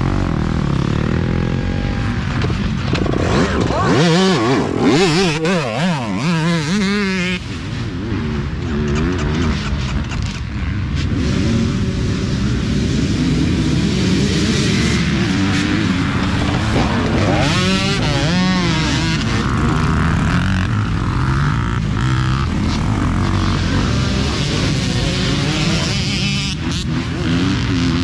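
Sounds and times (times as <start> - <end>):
dirt bike engines revving: 0.0 - 28.0
dirt bikes accelerating hard: 0.0 - 28.0.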